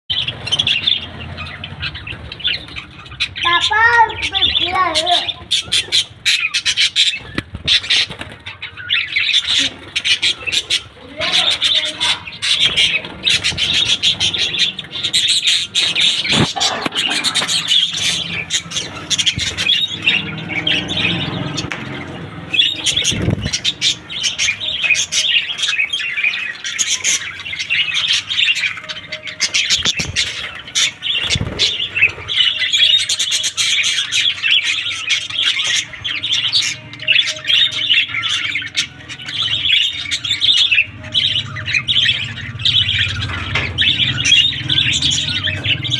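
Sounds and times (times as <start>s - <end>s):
pet birds chirping and squawking: 0.1s - 45.9s.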